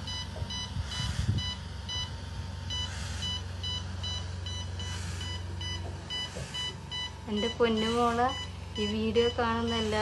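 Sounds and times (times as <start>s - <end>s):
medical alarm beeping: 0.0s - 10.0s
ventilator air rush: 0.0s - 10.0s
ventilator hum: 0.0s - 10.0s.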